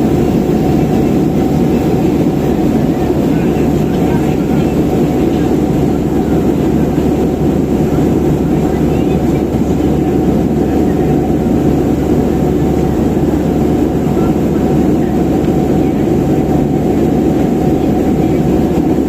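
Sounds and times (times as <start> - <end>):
airliner cabin engine rush: 0.0 - 19.0.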